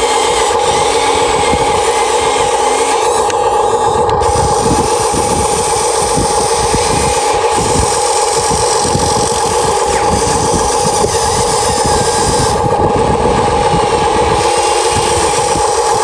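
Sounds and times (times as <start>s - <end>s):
electric motors whining: 0.0s - 16.0s
low rattle: 0.0s - 16.0s.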